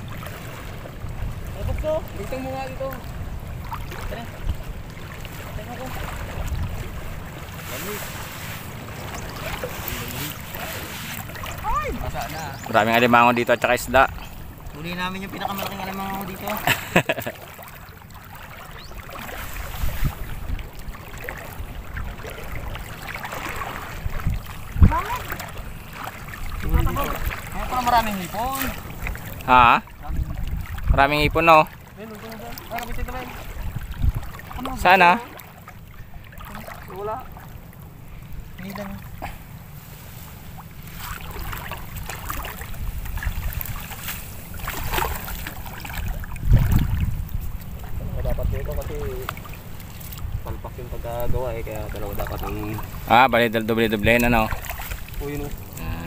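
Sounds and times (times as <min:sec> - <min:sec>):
wind buffeting microphone: 0:00.0 - 0:16.5, 0:18.6 - 0:31.7, 0:32.4 - 0:35.3, 0:40.4 - 0:56.0
soft splashes: 0:00.0 - 0:56.0
water sloshing around wading legs: 0:00.0 - 0:56.0.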